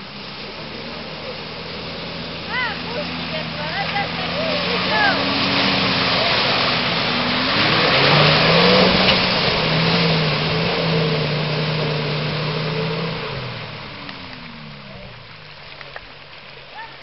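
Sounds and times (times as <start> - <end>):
engine revving hard: 0.0 - 15.4
tyres churning mud and water: 0.0 - 17.0.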